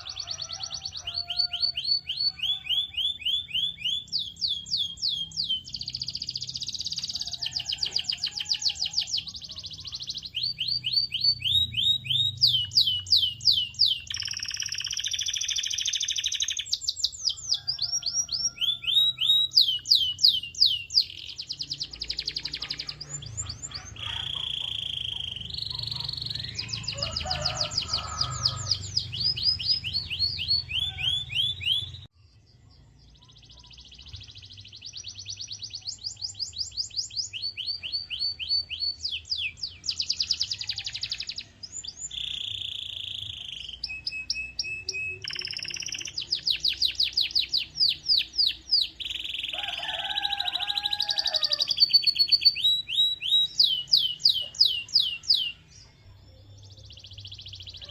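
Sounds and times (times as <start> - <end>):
canary singing: 0.0 - 32.1, 33.0 - 57.9.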